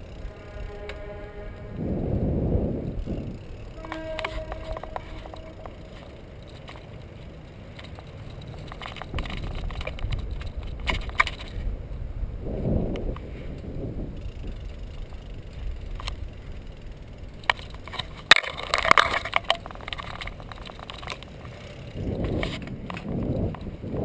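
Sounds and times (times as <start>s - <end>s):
wind rumble on microphone: 0.0s - 6.8s, 7.8s - 24.0s
bicycle rolling on pavement: 0.0s - 24.0s
bike rattles and clicks: 0.0s - 24.0s.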